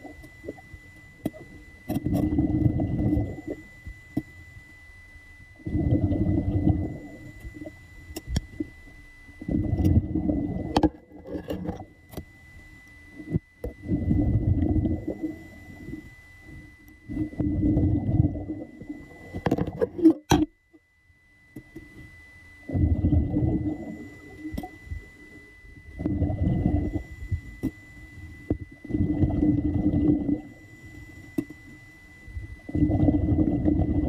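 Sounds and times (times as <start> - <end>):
faint high whine: 0.0 - 34.0.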